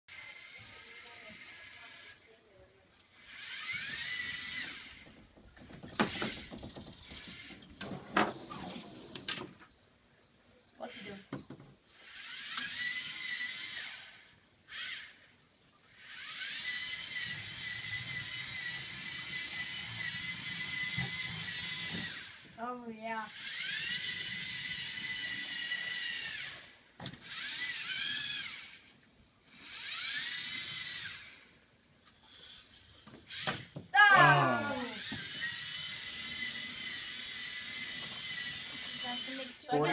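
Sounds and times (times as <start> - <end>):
small electric motors whirring: 0.1 - 9.4, 10.8 - 39.9.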